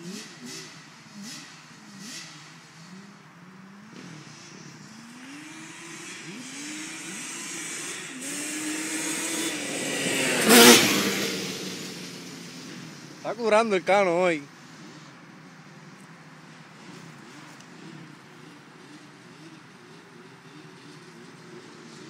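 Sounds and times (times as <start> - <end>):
quad engine at full throttle: 0.0 - 22.0.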